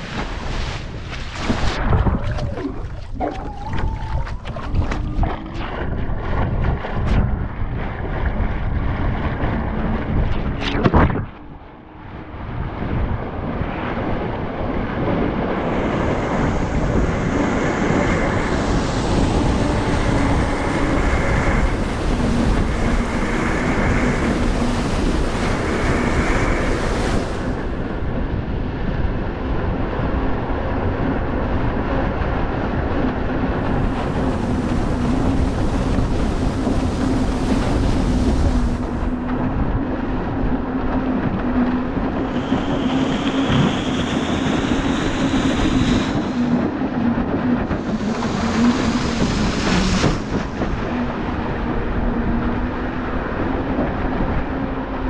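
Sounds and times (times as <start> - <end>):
rushing water: 0.0 - 27.8, 30.1 - 55.0
wind buffeting microphone: 0.0 - 55.0.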